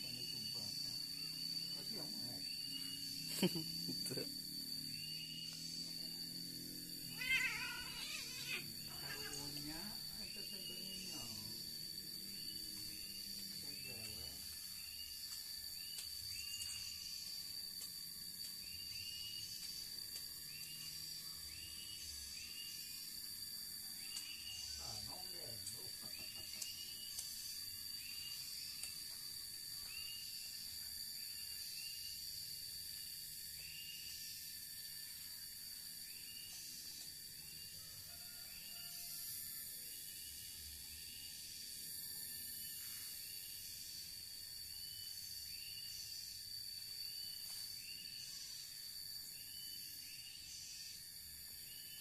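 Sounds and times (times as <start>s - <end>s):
insect high-pitched whine: 0.0s - 52.0s
short insect chirps: 0.0s - 52.0s.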